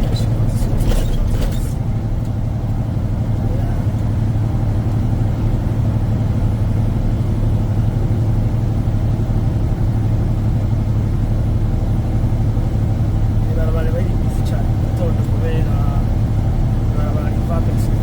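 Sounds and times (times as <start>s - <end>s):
road noise inside cab: 0.0s - 18.0s
truck engine drone: 0.0s - 18.0s.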